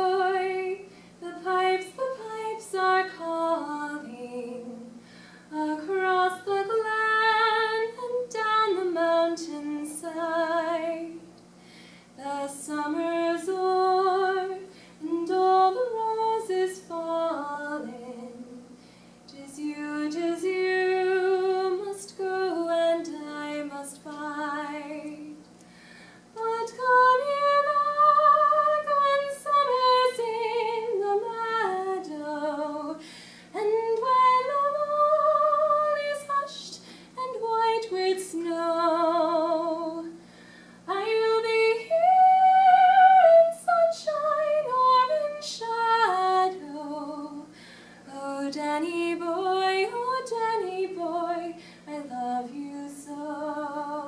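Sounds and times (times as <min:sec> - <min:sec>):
woman singing unaccompanied: 0:00.0 - 0:11.3, 0:12.2 - 0:25.5, 0:26.4 - 0:40.2, 0:40.8 - 0:54.0.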